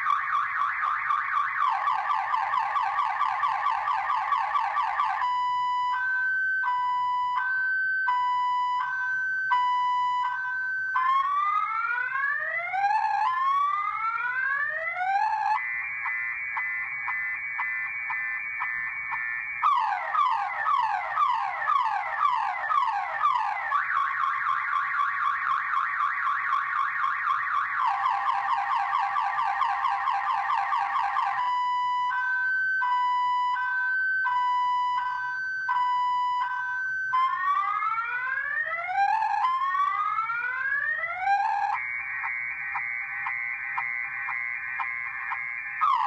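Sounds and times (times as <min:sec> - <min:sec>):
car alarm siren: 0:00.0 - 0:46.0.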